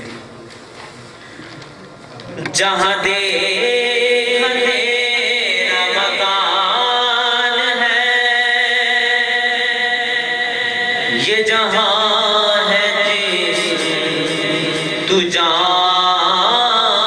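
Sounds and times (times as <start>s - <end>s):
man chanting: 2.4s - 17.0s.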